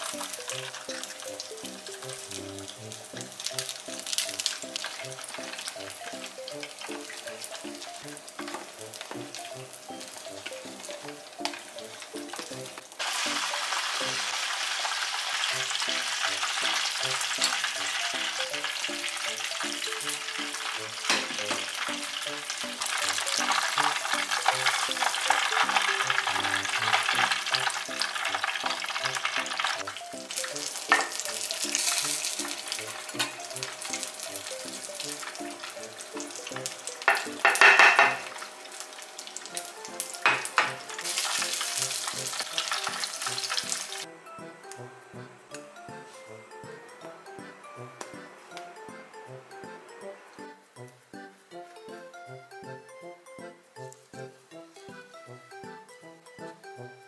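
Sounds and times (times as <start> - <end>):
soft background music: 0.0 - 57.0.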